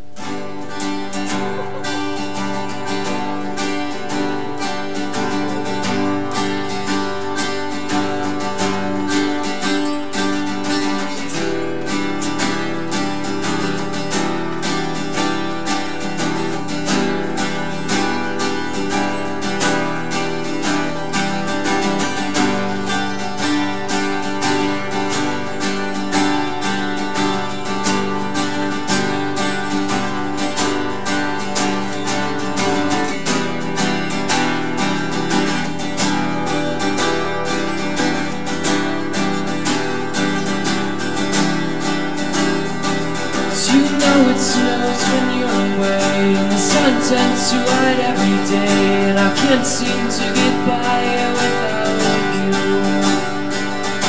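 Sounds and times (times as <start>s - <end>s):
acoustic guitar strumming chords: 0.0s - 54.0s.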